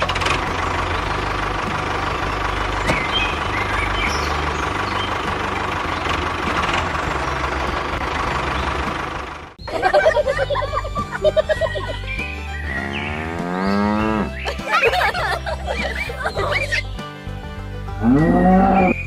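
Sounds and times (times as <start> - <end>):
engine running with whine: 0.0 - 19.0.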